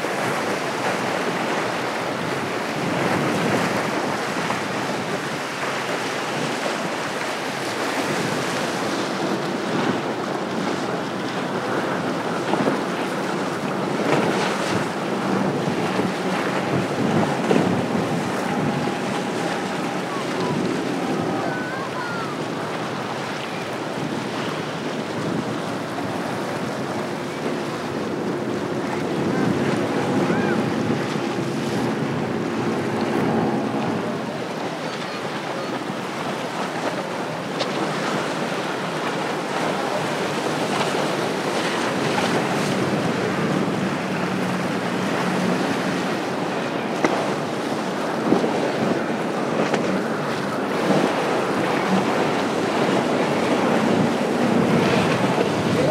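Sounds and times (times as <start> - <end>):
boat engines droning: 0.0 - 55.9
hulls rushing through water: 0.0 - 55.9
surf: 0.0 - 55.9
wind on microphone: 0.0 - 55.9.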